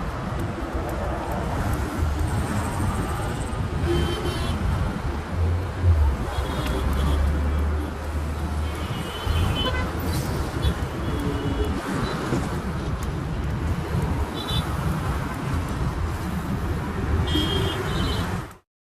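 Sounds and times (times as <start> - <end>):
traffic rumble: 0.0 - 18.6.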